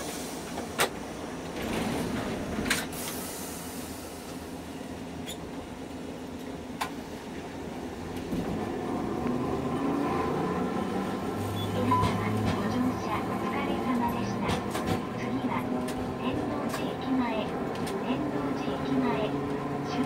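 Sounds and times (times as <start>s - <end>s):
streetcar wheels on track: 0.0s - 20.0s.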